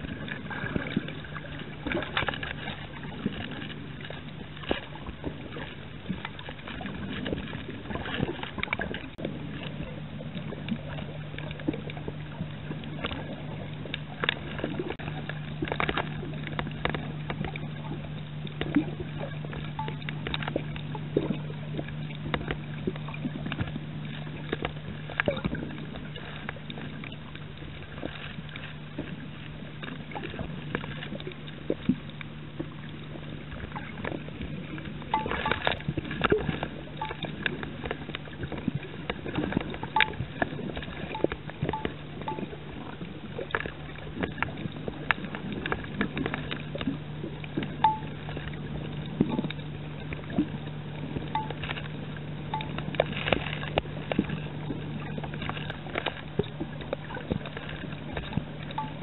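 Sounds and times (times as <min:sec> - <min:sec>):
low underwater hum: 0:00.0 - 0:59.0
sharp clicks and crackles: 0:00.0 - 0:59.0.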